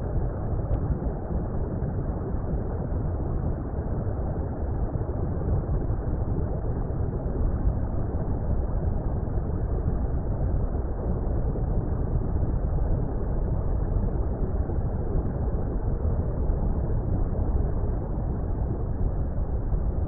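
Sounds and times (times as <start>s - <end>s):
muffled water rumble: 0.0s - 20.0s.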